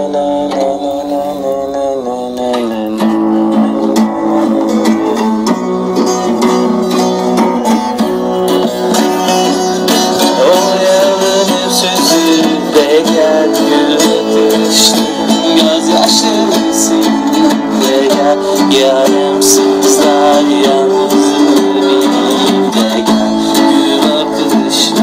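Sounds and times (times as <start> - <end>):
plucked saz melody: 0.0 - 25.0
strummed acoustic guitar chords: 0.0 - 25.0.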